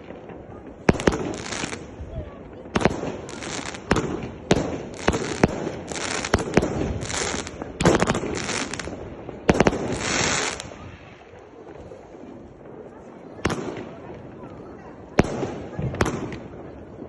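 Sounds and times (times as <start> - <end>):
firework bangs: 0.0 - 17.0
firework hissing crackle: 0.0 - 17.0.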